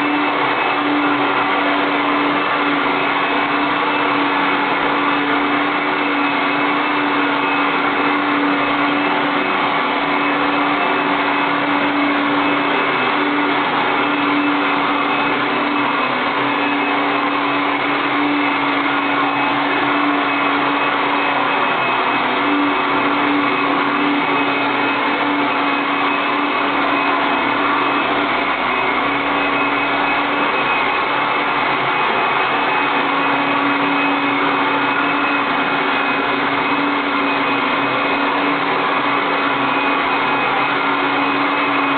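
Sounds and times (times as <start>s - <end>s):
robot vacuum cleaner running: 0.0s - 41.9s.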